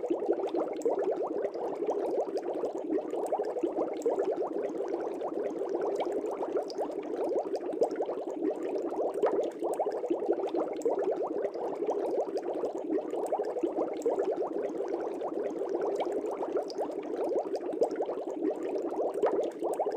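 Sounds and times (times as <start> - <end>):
air bubbles in aquarium water: 0.0 - 19.9.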